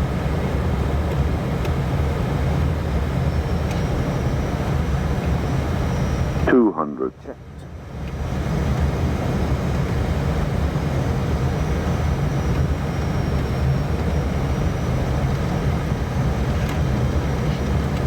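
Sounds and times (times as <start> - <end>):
airliner cockpit noise: 0.0 - 18.0.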